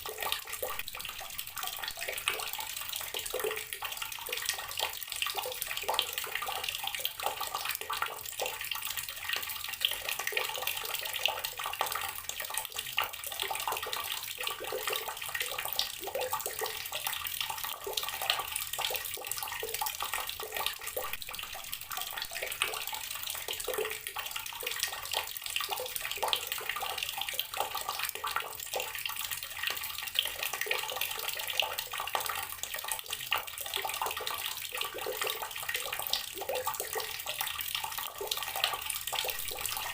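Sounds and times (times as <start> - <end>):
water running from outdoor tap: 0.0 - 39.9.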